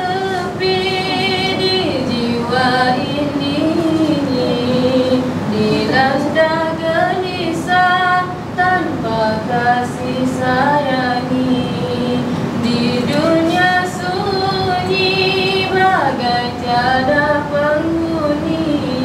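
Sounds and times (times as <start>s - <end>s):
girl singing into a microphone: 0.0s - 19.0s.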